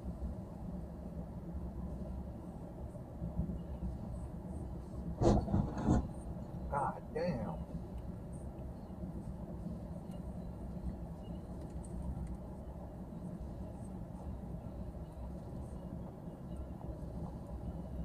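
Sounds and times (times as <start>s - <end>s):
idling car engines and traffic: 0.0s - 18.0s.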